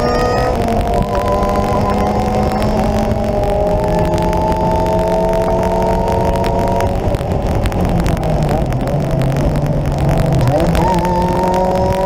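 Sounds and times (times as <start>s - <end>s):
car engine accelerating: 0.0s - 12.0s
road and wind noise: 0.0s - 12.0s.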